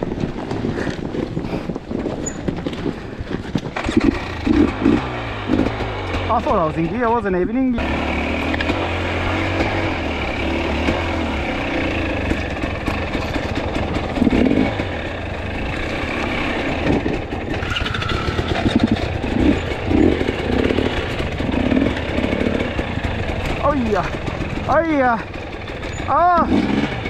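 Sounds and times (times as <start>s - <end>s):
dirt bike engine revving: 3.7s - 27.0s.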